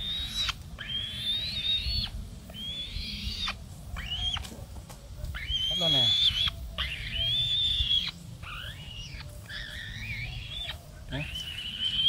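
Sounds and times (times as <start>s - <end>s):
bird whistled screeches: 0.0s - 4.4s, 5.4s - 12.0s.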